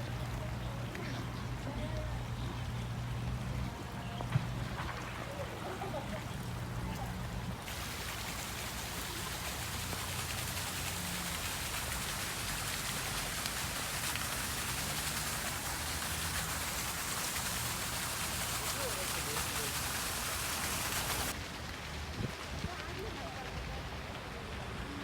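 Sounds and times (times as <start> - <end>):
running water hiss: 0.0 - 25.0.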